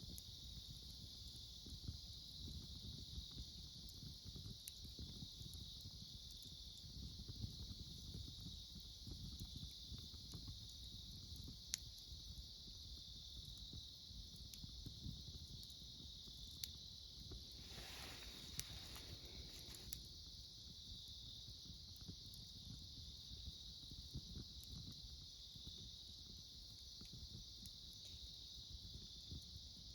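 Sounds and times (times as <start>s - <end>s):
soft hiss from fire: 0.0s - 29.9s
wood fire crackling: 0.1s - 29.9s
insects chirping: 4.7s - 29.9s.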